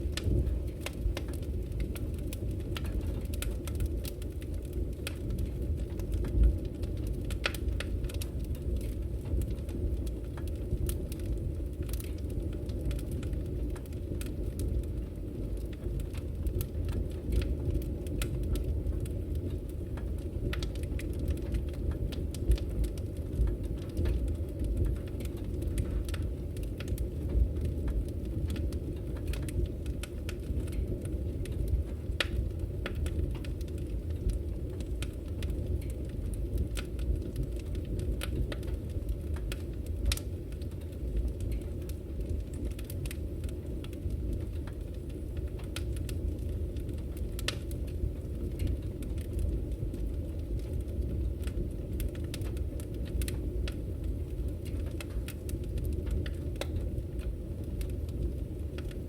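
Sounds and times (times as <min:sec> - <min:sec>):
firewood crackling and popping: 0:00.0 - 0:59.0
flames rumbling: 0:00.0 - 0:59.0.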